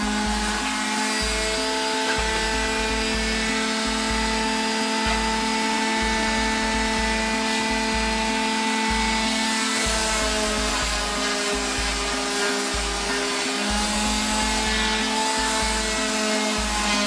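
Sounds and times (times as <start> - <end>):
background music: 0.0 - 17.0
orbital sander whining: 0.0 - 17.0.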